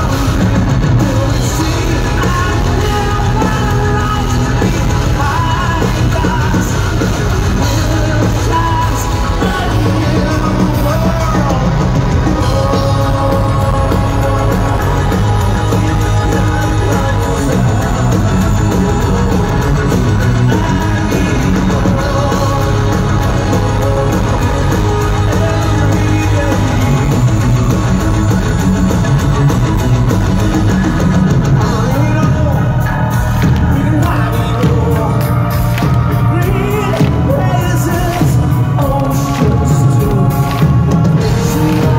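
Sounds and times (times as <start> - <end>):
live metal band playing: 0.0 - 41.9
man singing lead vocals: 0.0 - 41.9.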